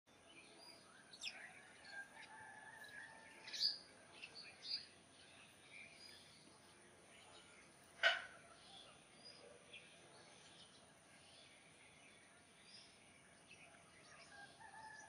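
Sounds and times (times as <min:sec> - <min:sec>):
birds chirping: 0:00.1 - 0:15.0
faint outdoor background: 0:00.1 - 0:15.0.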